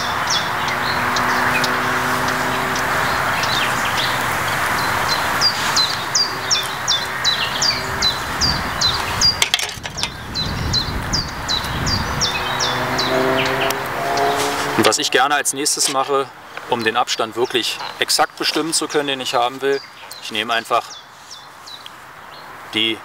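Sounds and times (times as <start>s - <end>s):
small songbird chirping: 0.0s - 16.1s, 16.7s - 22.9s
outdoor background hiss: 0.0s - 23.0s.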